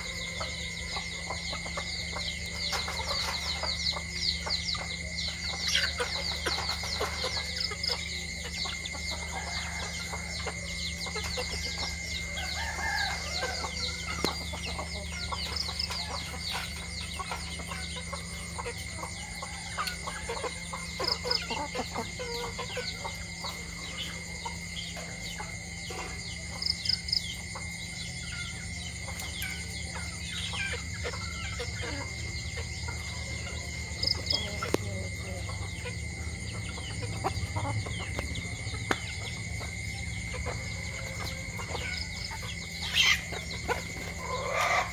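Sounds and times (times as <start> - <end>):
chickens clucking: 0.0 - 44.9
chickens pecking on concrete: 0.0 - 44.9.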